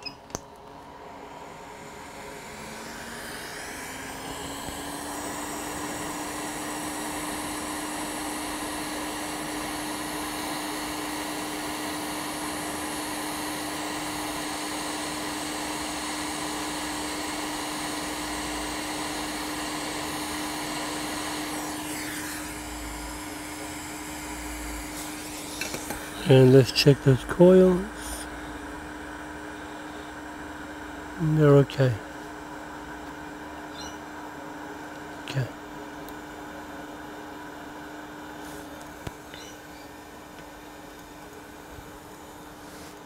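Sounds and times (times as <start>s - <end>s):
blower hum: 0.0s - 43.0s
hot air blower rushing: 0.7s - 43.0s.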